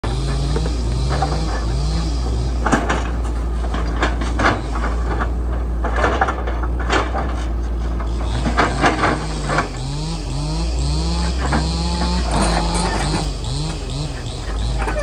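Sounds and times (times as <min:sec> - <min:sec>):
excavator diesel engine running: 0:00.0 - 0:15.0
machine clanking: 0:00.0 - 0:15.0.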